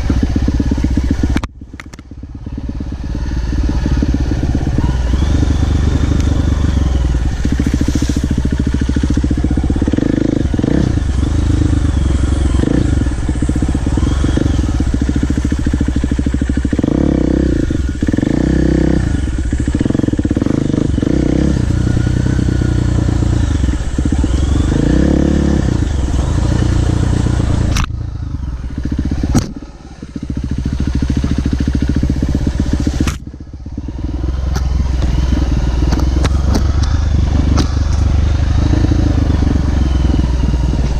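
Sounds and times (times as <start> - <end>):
dirt bike engine revving: 0.0 - 1.4, 2.3 - 40.9.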